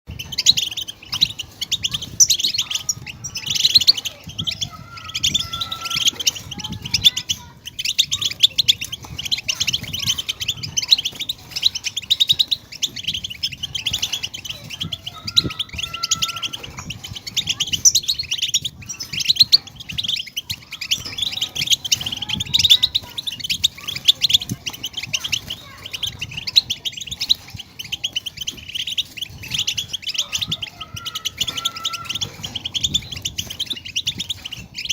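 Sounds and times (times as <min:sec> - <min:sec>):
finches chirping and twittering: 0:00.1 - 0:34.9.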